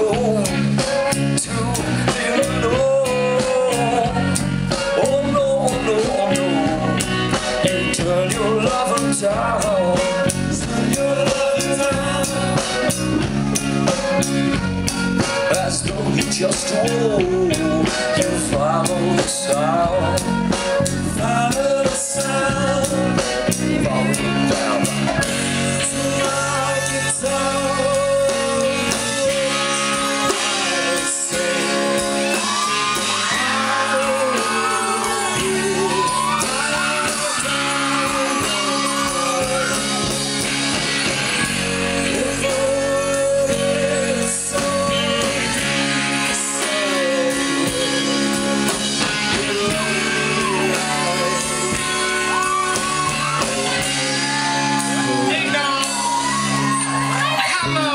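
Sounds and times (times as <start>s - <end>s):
person singing: 0.0s - 57.9s
rock band playing: 0.0s - 57.9s.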